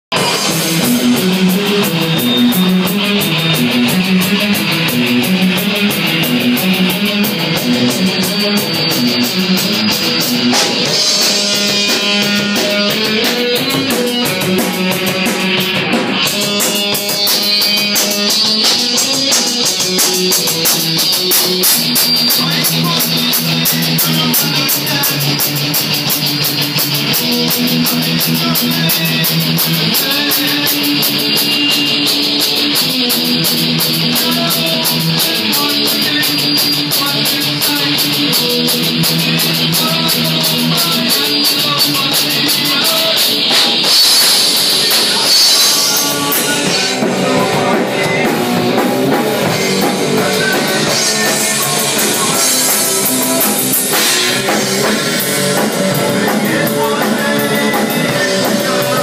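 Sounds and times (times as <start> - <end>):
drum kit with cymbal strokes: 0.0 - 59.0
electric guitar riffing: 0.1 - 59.0.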